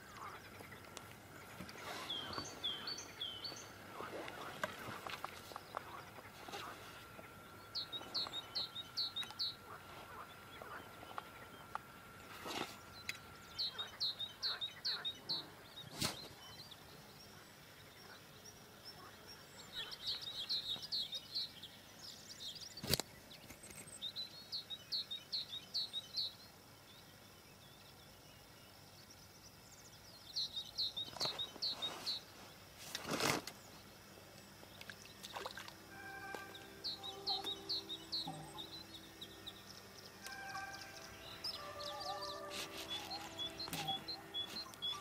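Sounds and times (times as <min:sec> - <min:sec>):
faint outdoor noise: 0:00.0 - 0:45.0
songbird singing: 0:00.0 - 0:45.0.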